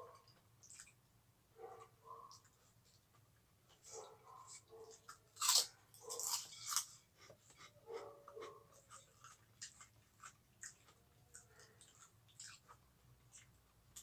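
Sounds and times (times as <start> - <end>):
chewing crisp cracker: 1.8 - 14.0.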